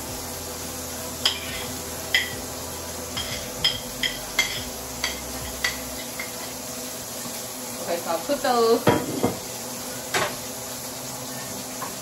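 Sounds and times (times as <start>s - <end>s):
steady hum: 0.0s - 10.7s.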